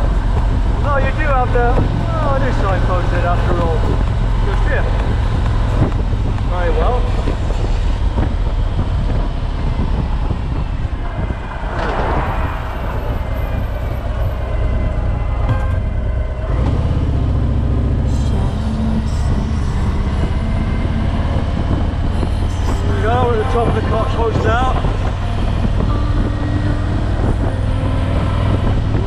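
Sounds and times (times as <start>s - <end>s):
motorcycle engine running: 0.0s - 11.7s, 12.6s - 29.0s
wind and road noise: 0.0s - 29.0s.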